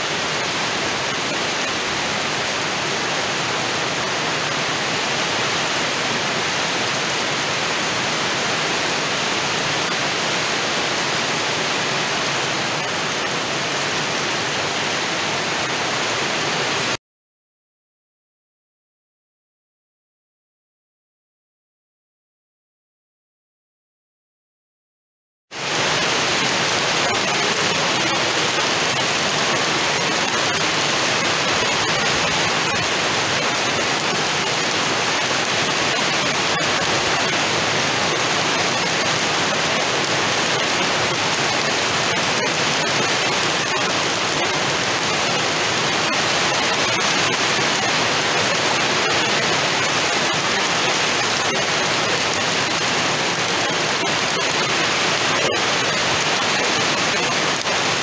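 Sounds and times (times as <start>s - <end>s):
heavy rain falling: 0.0s - 17.0s, 25.5s - 58.0s.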